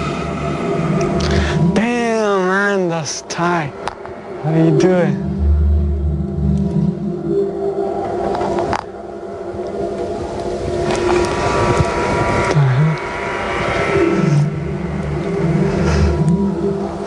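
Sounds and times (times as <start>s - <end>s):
droning background score: 0.0s - 17.0s.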